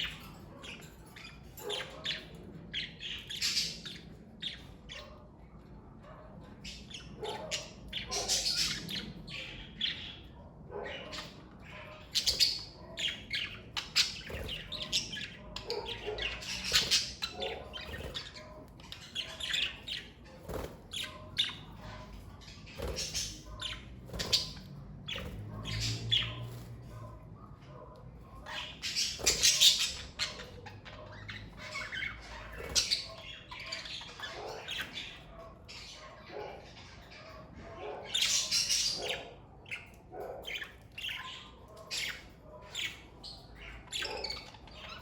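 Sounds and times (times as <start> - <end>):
budgerigars chirping and squawking: 0.0 - 45.0.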